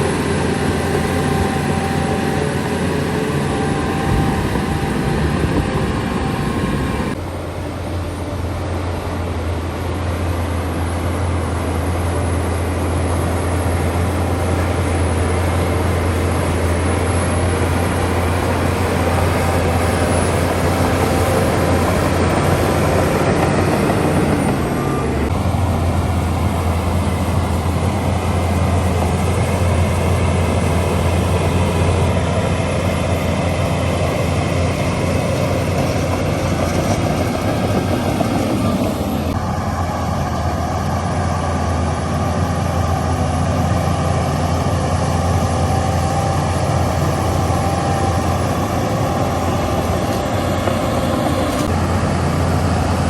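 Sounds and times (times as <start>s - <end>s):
heavy diesel machinery engine hum: 0.0s - 53.0s.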